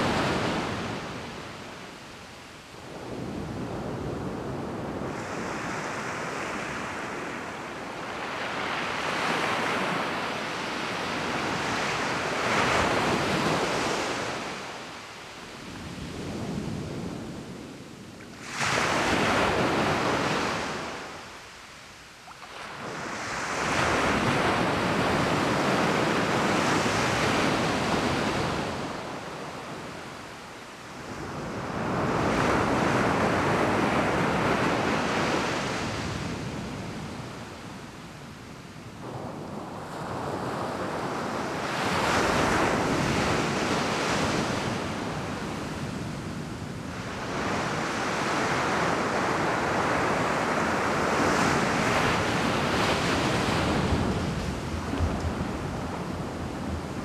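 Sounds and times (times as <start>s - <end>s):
surf breaking on a beach: 0.0s - 2.1s, 2.7s - 21.6s, 22.4s - 57.0s.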